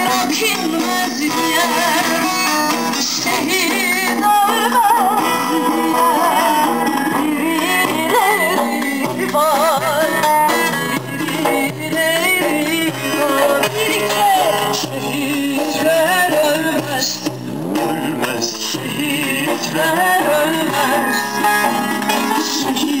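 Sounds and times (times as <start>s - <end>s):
plucked string accompaniment: 0.0s - 23.0s
woman singing folk song: 0.0s - 23.0s.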